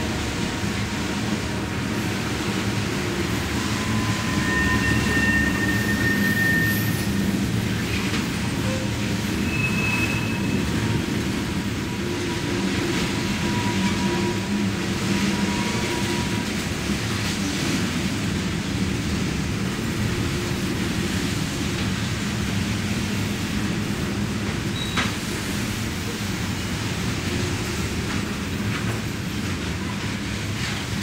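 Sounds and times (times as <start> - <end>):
train rumbling past on rails: 0.0 - 31.0.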